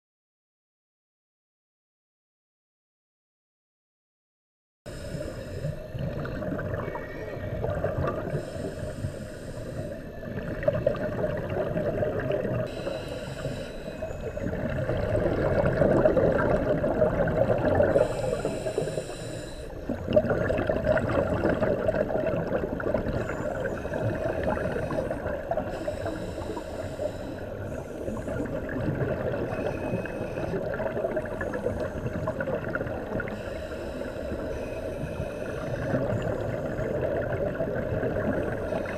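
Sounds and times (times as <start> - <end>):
muffled underwater rumble: 4.9 - 38.9
underwater bubbling: 4.9 - 38.9.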